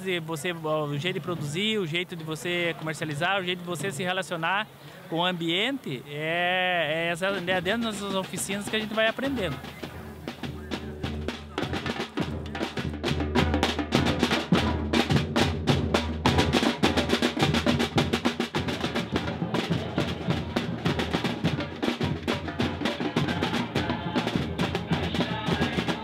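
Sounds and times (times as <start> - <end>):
drum group playing fast rhythm: 1.1 - 4.4, 6.2 - 26.0.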